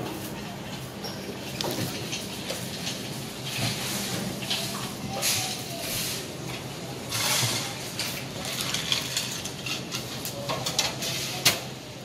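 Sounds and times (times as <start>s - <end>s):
objects rustling and clattering: 0.0s - 11.9s.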